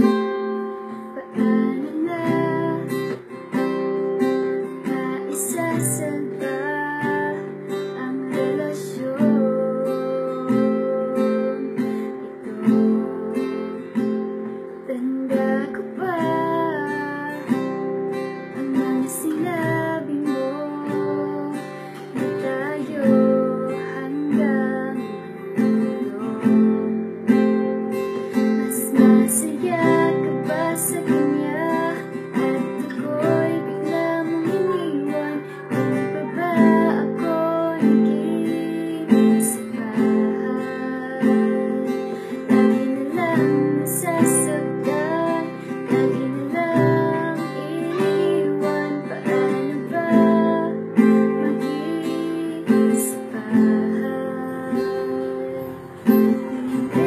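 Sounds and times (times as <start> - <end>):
strummed acoustic guitar: 0.0 - 57.0
woman singing: 0.0 - 57.0.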